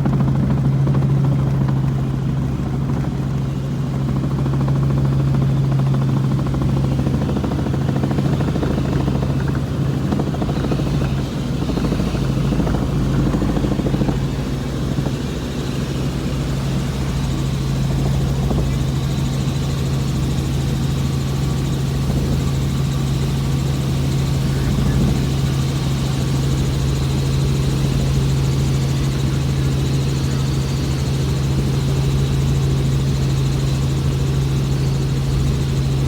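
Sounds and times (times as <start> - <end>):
helicopter engine and rotors: 0.0 - 36.0.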